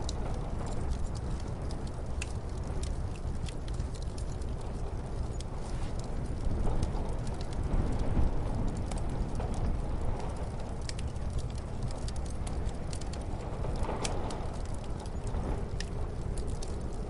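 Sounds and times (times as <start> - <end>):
muffled storm wind: 0.0 - 17.0
wood fire crackling: 0.0 - 17.0.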